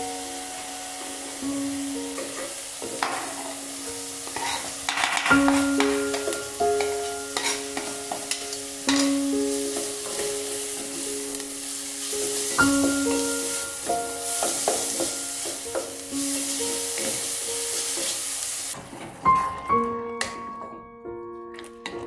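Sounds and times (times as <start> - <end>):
onion sizzling in a pot: 0.0 - 18.8
soft piano music: 0.0 - 22.0.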